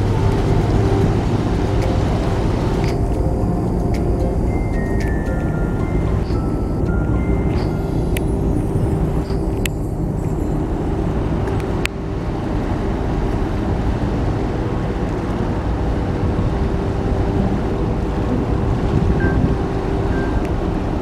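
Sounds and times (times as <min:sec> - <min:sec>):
ship engine low rumble: 0:00.0 - 0:21.0
steady hum: 0:00.0 - 0:21.0
wind noise on microphone: 0:00.0 - 0:21.0.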